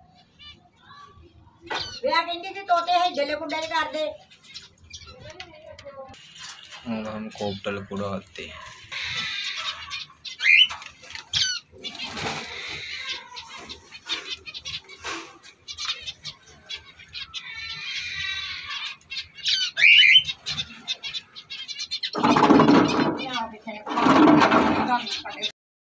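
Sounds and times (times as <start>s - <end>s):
cage birds chirping: 0.0s - 25.5s.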